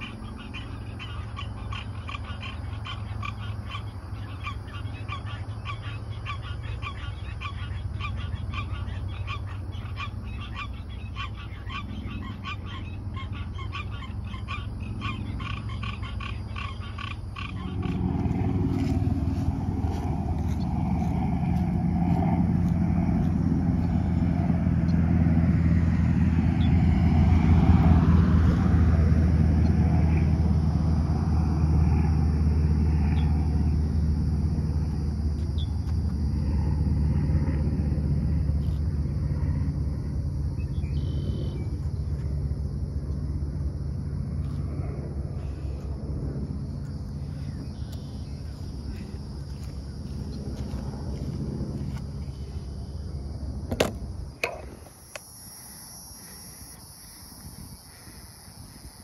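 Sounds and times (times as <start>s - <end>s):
frogs calling: 0.0s - 59.0s
vehicle engine rumble: 0.0s - 59.0s.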